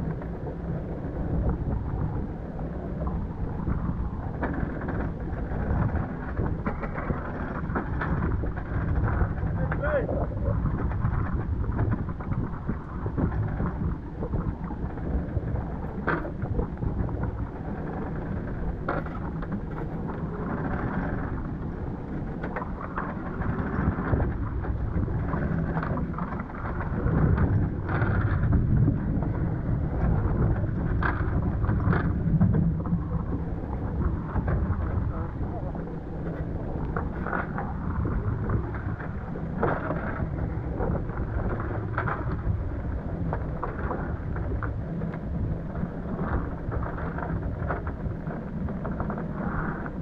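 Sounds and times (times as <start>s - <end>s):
gusty wind buffeting microphone: 0.0s - 50.0s.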